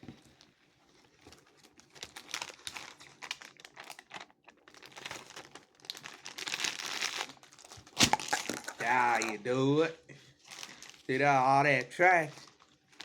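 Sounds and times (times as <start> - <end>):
snack packaging being crumpled: 1.0 - 13.0.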